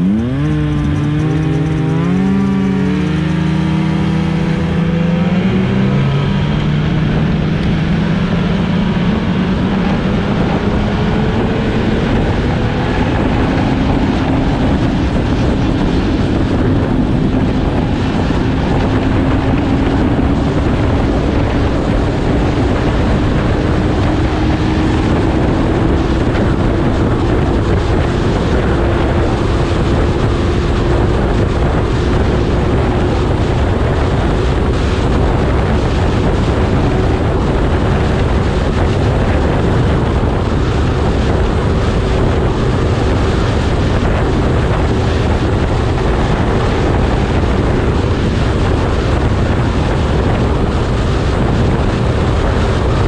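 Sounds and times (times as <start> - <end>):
rushing noise: 0.0 - 53.0
snowmobile engine running: 0.0 - 53.0.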